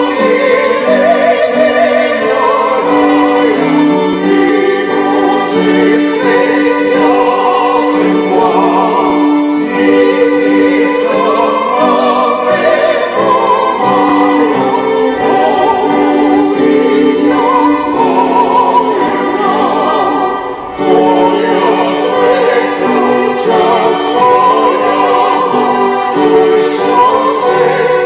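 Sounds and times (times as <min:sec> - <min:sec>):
violins: 0:00.0 - 0:28.0
voices singing in harmony: 0:00.0 - 0:28.0.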